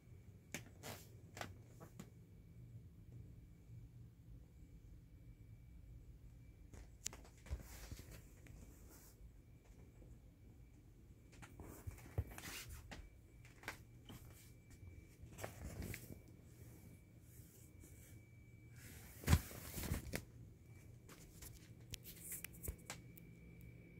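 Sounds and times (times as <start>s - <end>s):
faint high whine: 0.0s - 23.9s.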